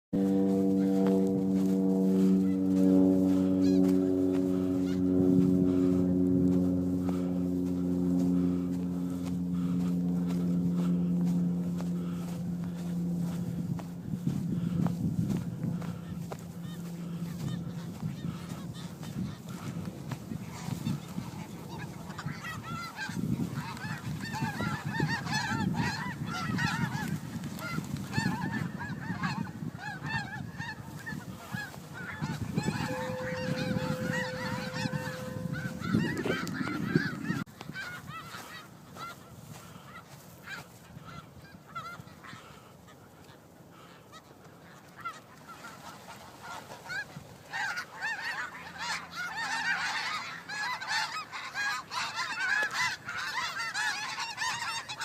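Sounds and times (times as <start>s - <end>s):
flock of geese honking: 0.2s - 55.0s.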